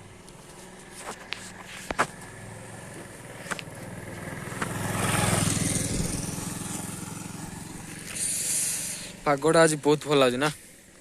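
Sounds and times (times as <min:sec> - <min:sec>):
vehicle engine passing: 0:00.0 - 0:10.9.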